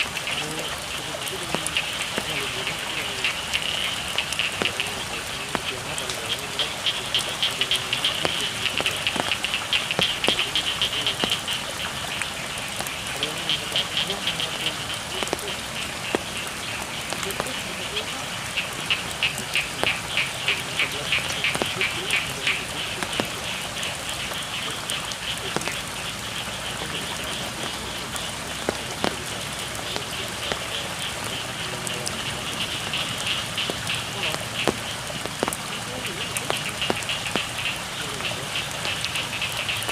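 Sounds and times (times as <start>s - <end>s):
frogs calling: 0.0s - 39.9s
raindrops ticking close by: 0.0s - 39.9s
steady rain: 0.0s - 39.9s.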